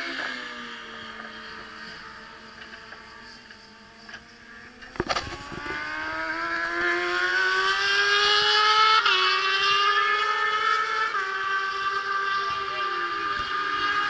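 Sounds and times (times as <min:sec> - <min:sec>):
racing motorcycle engine accelerating: 0:00.0 - 0:14.0.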